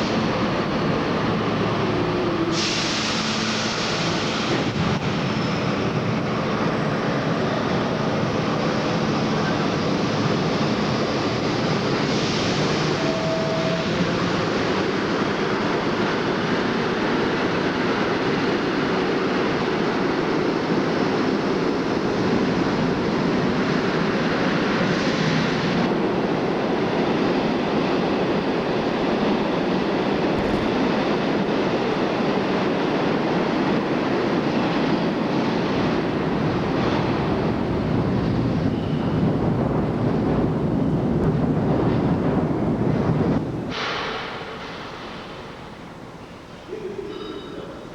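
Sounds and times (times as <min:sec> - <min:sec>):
subway train rumbling on rails: 0:00.0 - 0:47.9.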